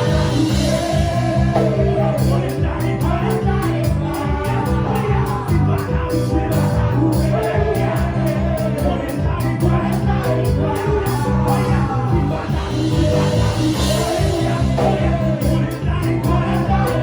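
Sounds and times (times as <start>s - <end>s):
bass: 0.0s - 17.0s
fast drum beat: 0.0s - 17.0s
person singing: 0.0s - 17.0s.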